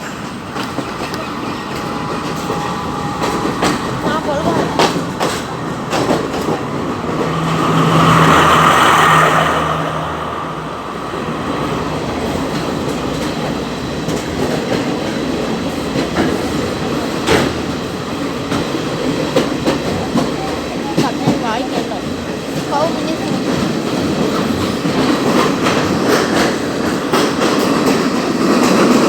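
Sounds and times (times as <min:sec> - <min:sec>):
wheels clacking over rail joints: 0:00.0 - 0:09.0, 0:10.8 - 0:29.0
train rumbling on rails: 0:00.0 - 0:29.0.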